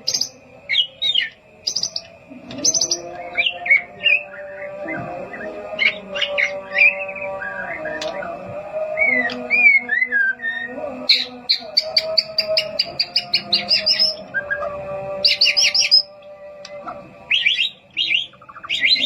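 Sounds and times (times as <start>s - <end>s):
songbird singing and whistling: 0.0s - 19.0s.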